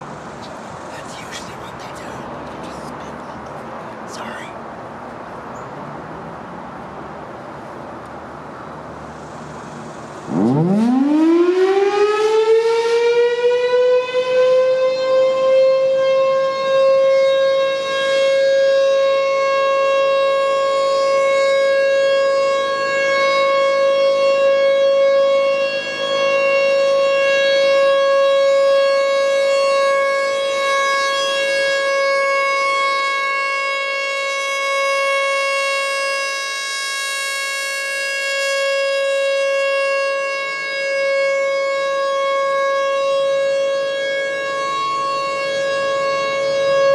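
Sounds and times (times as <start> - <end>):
outdoor warning siren: 8.8 - 46.9.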